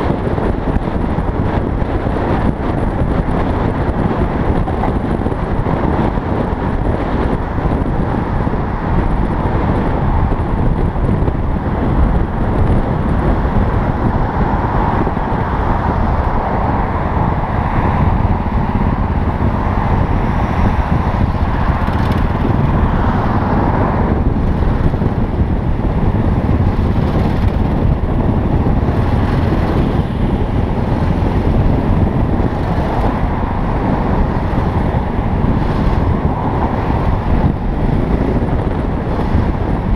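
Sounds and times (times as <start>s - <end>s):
motorcycle engine at low speed: 0.0s - 39.9s
wind rushing over microphone: 0.0s - 39.9s.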